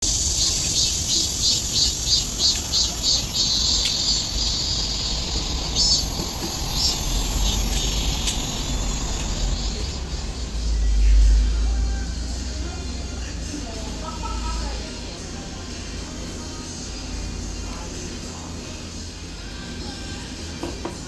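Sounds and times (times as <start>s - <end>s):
insects chirping: 0.0s - 20.3s.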